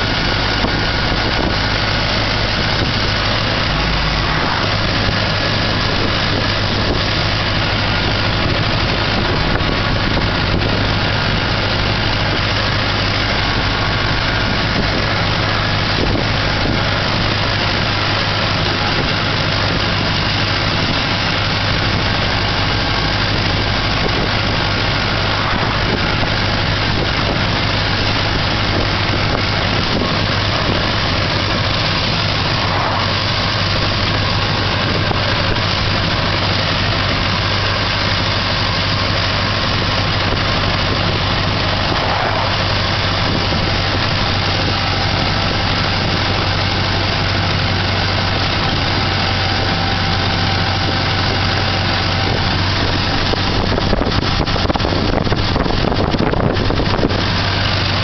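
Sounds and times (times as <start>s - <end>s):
car engine running inside car: 0.0s - 58.0s
road noise rushing: 0.0s - 58.0s.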